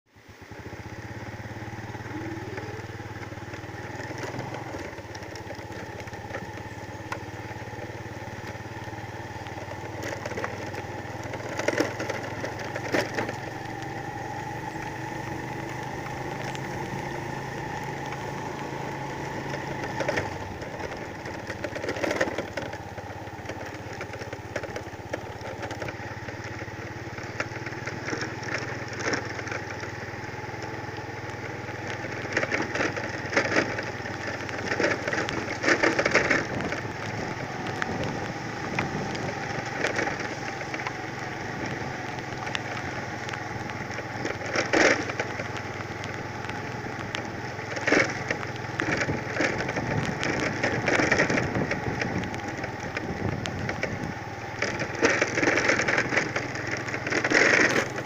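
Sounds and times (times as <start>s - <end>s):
small engine running: 0.1s - 58.0s.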